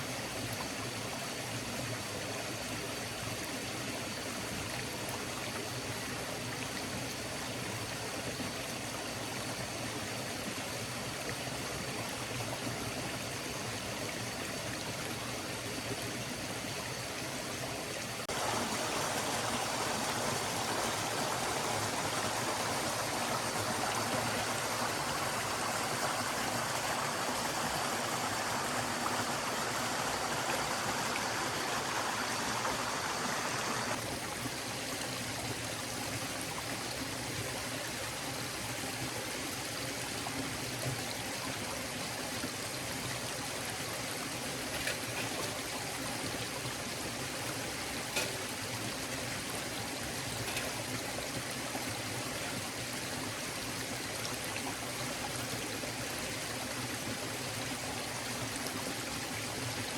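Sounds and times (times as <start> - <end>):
forest stream flowing: 0.0 - 59.9.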